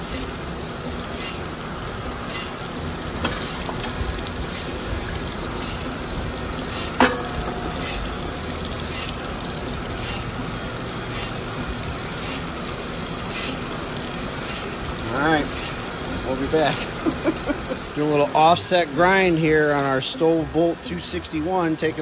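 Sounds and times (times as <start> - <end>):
grinding wheel with coolant hiss: 0.0 - 22.0.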